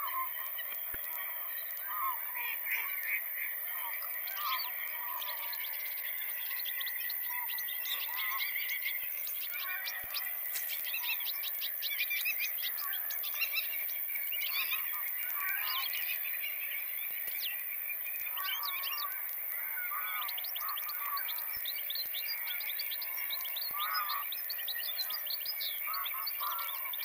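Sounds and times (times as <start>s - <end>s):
finches twittering: 3.9s - 27.0s.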